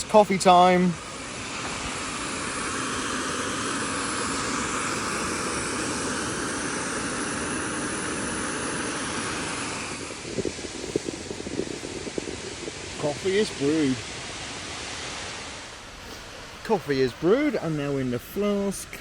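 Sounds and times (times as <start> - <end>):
gas stove burner hissing: 0.0 - 19.0.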